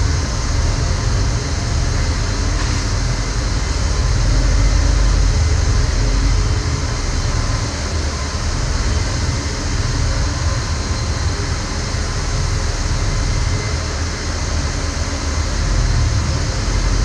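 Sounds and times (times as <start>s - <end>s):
diesel truck engine rumbling: 0.0s - 17.0s
machinery drone: 0.0s - 17.0s.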